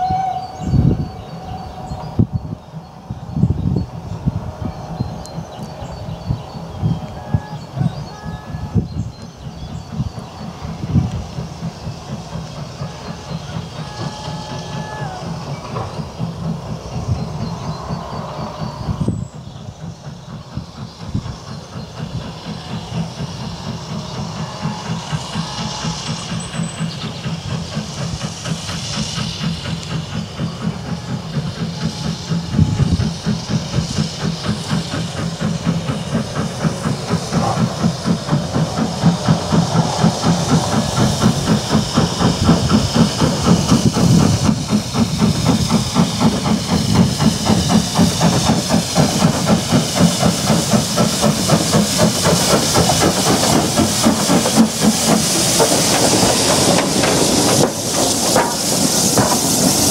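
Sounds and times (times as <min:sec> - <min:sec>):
steam hissing: 0:00.0 - 0:59.9
steam locomotive exhaust chuffs: 0:00.0 - 0:59.9.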